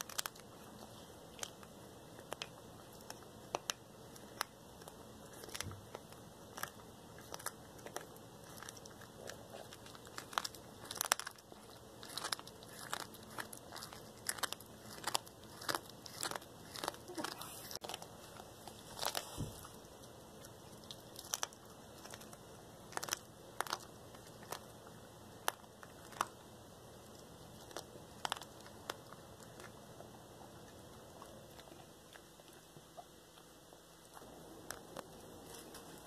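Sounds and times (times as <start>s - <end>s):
cat crunching small bones: 0.0s - 24.8s, 27.1s - 32.7s.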